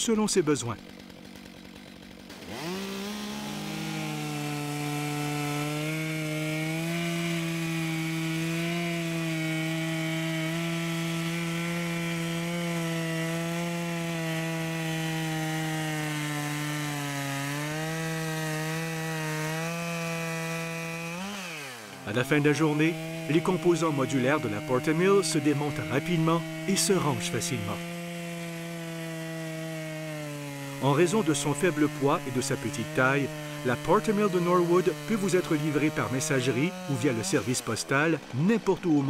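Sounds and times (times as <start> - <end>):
chainsaw cutting log: 0.0 - 39.0.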